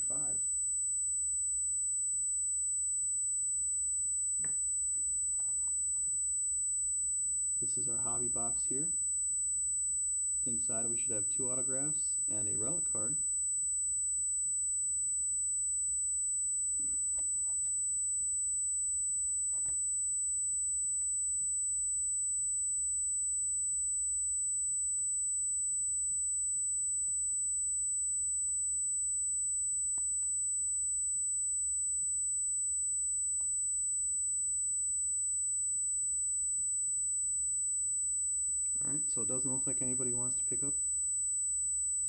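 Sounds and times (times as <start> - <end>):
high-pitched electronic ringing tone: 0.0 - 42.0
low hum: 0.0 - 42.0.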